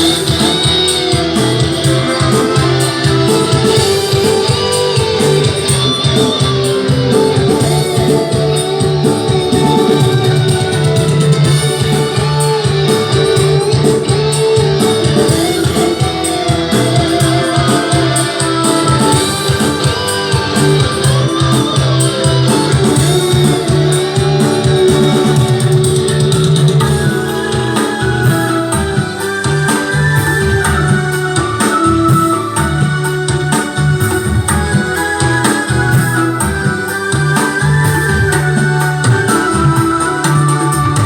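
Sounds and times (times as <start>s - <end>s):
loud guitar and bass music: 0.0s - 41.0s.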